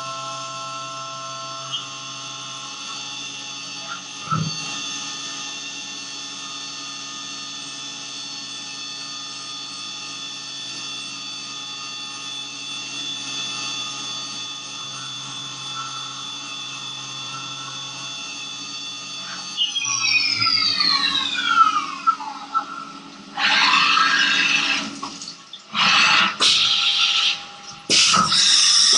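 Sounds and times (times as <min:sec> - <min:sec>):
milling machine spindle whine: 0:00.0 - 0:28.9.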